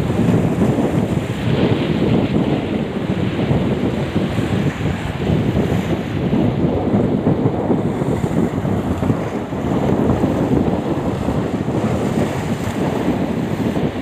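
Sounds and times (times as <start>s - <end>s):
choppy water: 0.0s - 14.0s
wind buffeting microphone: 0.0s - 14.0s.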